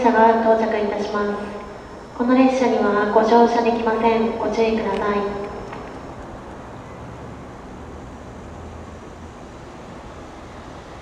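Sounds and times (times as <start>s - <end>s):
faint hiss: 0.0s - 11.0s.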